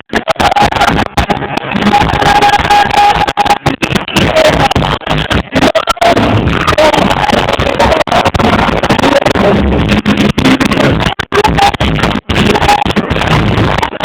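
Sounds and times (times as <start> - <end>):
distorted live reggae band: 0.0 - 14.0.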